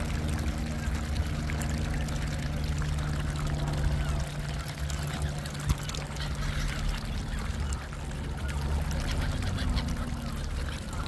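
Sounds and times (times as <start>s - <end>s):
water splashing and lapping: 0.0s - 11.0s.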